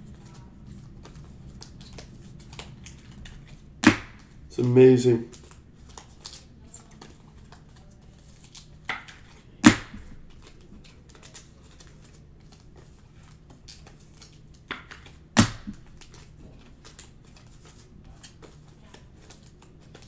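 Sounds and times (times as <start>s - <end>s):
cards rustling and crinkling: 0.0s - 20.0s.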